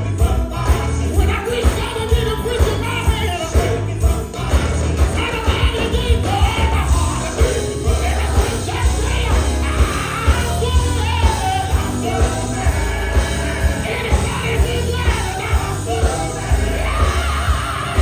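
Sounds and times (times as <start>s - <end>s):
gospel band playing: 0.0s - 18.0s
voices singing and shouting: 0.0s - 18.0s.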